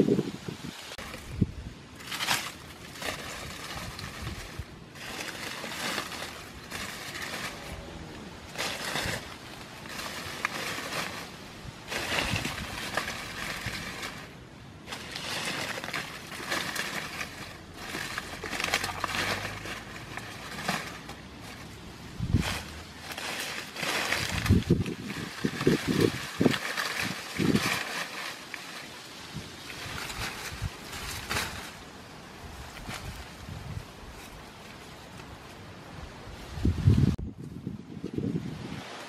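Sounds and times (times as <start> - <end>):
dry leaves crackling and rustling: 0.0 - 37.2.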